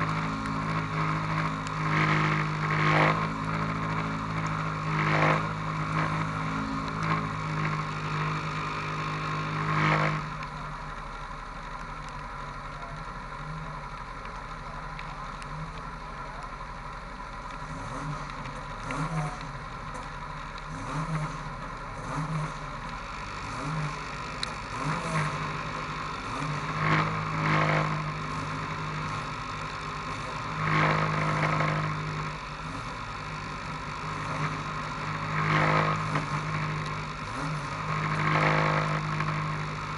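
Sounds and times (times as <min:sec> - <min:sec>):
engine throttle blips: 0:00.0 - 0:39.9
race car engines idling: 0:00.0 - 0:39.9.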